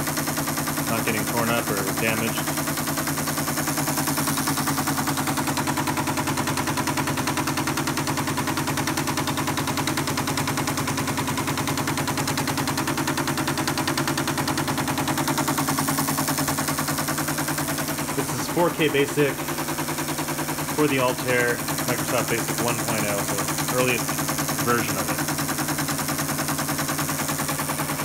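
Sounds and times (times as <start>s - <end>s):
steady motor hum: 0.0s - 28.0s.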